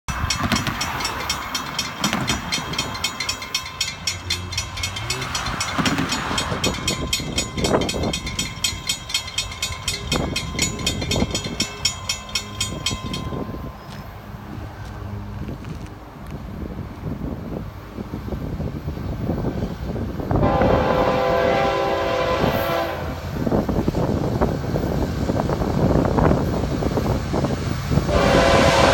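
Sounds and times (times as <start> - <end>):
crossing warning bell ringing: 0.1 - 15.1, 20.3 - 28.9.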